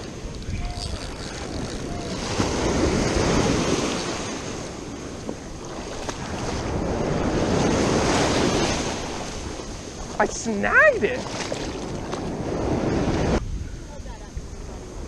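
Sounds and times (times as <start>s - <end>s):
ocean surf washing up beach: 0.0s - 13.4s
wind buffeting microphone: 0.0s - 15.0s.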